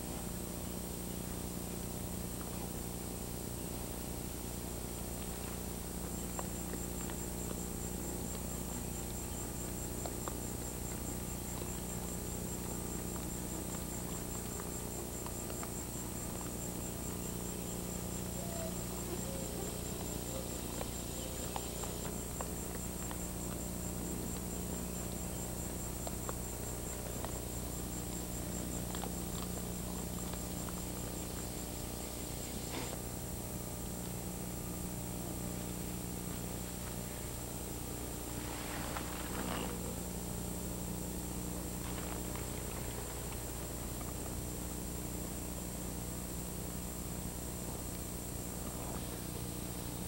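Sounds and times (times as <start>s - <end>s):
low steady hum: 0.0s - 50.0s
insects trilling: 0.1s - 50.0s.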